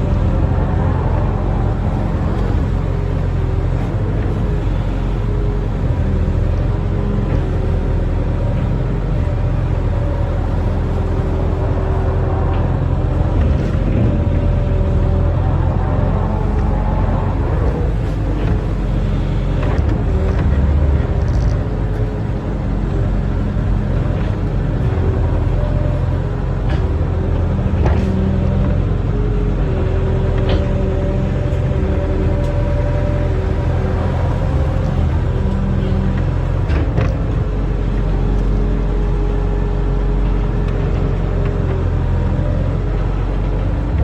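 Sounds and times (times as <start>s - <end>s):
diesel engine low rumble: 0.0s - 44.0s.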